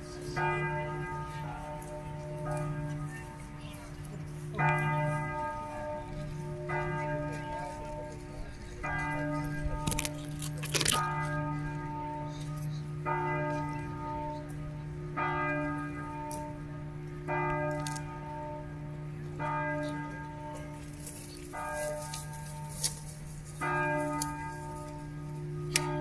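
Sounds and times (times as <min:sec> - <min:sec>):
church bell struck by hammer: 0:00.0 - 0:26.0.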